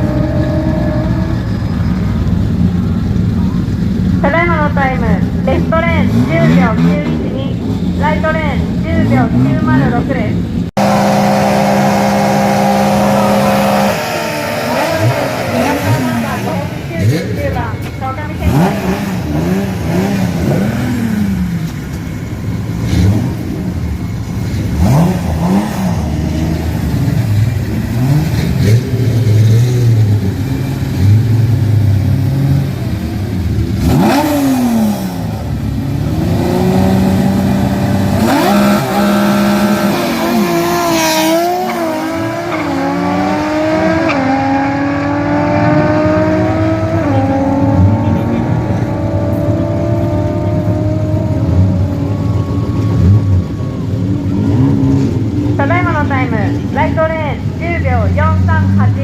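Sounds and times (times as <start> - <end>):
engine pulling hard: 0.0 - 59.0
engines blipping throttle: 0.0 - 59.0
car passing loudly: 10.8 - 59.0.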